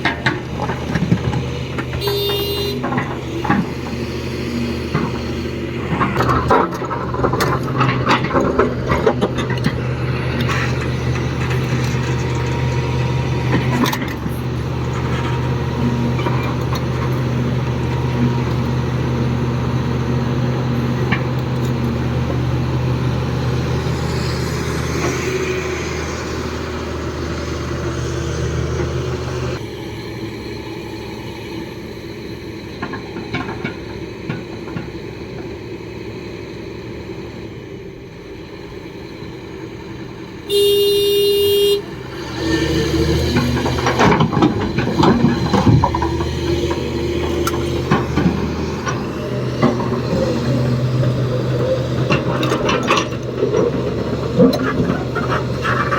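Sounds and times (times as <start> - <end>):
diesel machinery engine humming: 0.0 - 55.9.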